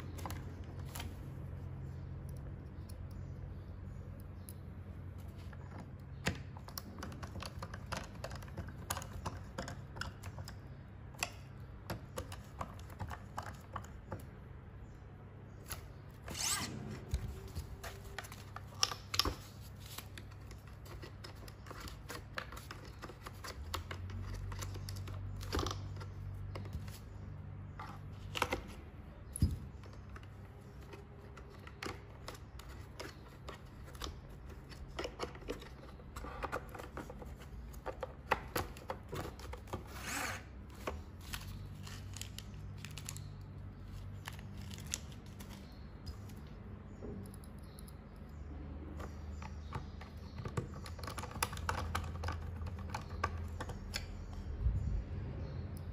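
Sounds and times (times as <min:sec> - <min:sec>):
plastic parts handled and pressed: 0:00.0 - 0:14.6, 0:15.6 - 0:47.8, 0:48.8 - 0:54.5.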